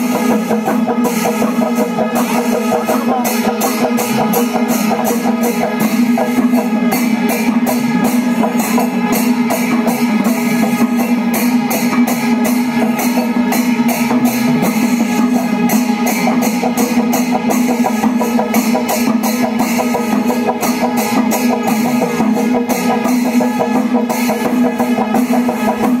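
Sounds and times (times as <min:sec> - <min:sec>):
dense percussive strikes: 0:00.0 - 0:26.0
music with drums: 0:00.0 - 0:26.0
steady held tone: 0:00.0 - 0:26.0.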